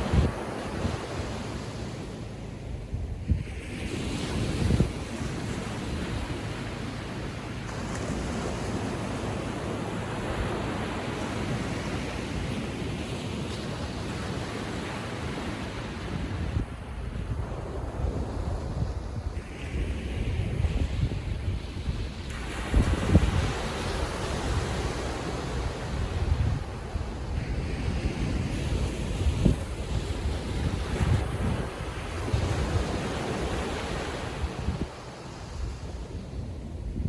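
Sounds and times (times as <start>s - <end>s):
small waves breaking on beach: 0.0s - 37.0s
wind buffeting microphone: 0.0s - 37.0s.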